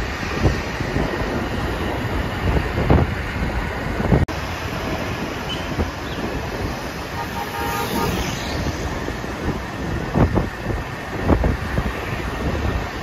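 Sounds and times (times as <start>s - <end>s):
road traffic: 0.0s - 13.0s
wind rumble on microphone: 0.0s - 13.0s.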